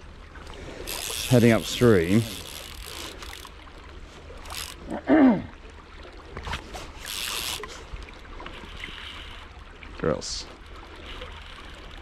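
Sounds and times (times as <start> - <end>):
river water flowing and lapping: 0.0 - 12.0.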